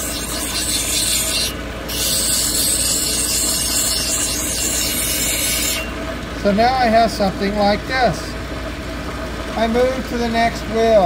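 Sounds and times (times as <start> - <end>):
machine low hum: 0.0 - 11.0.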